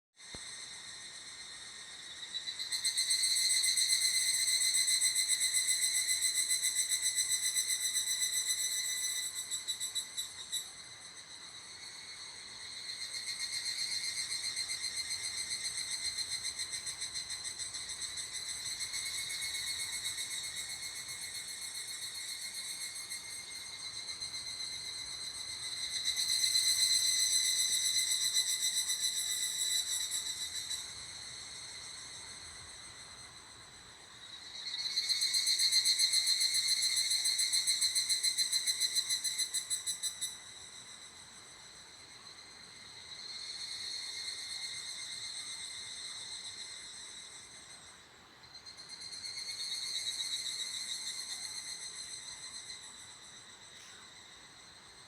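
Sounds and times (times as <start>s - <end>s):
cicadas trilling: 0.3s - 55.0s.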